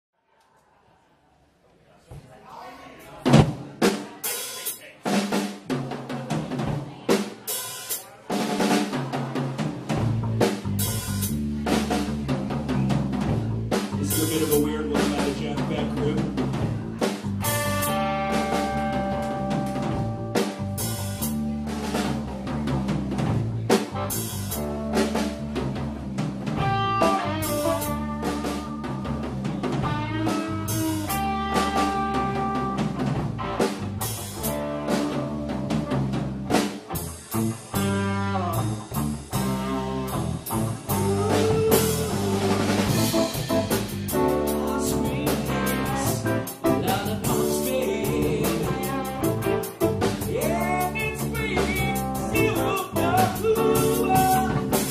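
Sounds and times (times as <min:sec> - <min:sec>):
blues rock band playing: 0:03.3 - 0:54.9.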